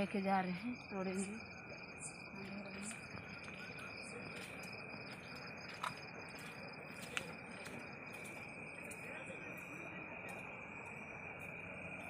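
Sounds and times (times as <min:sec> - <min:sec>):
crickets and night insects chirping: 0:00.0 - 0:12.0.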